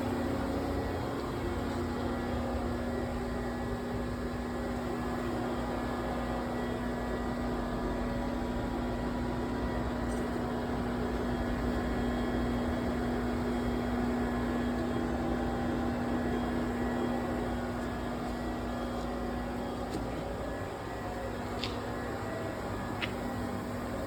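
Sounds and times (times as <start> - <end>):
lathe machine hum: 0.0 - 24.0.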